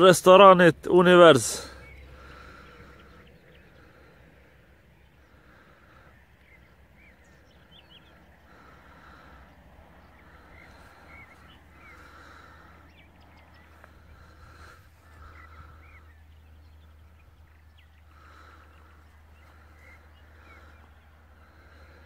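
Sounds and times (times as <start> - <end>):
birds chirping and calling: 0.0 - 22.0.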